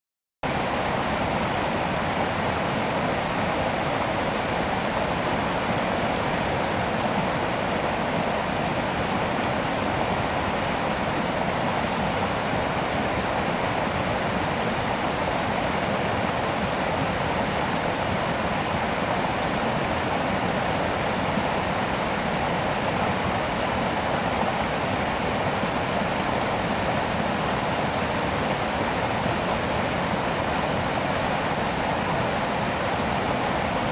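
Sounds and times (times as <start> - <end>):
stream water rushing: 0.5 - 33.9.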